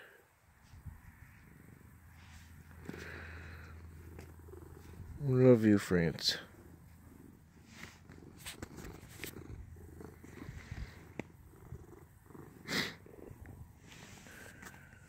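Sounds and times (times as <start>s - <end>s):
cat purring: 1.3s - 15.0s.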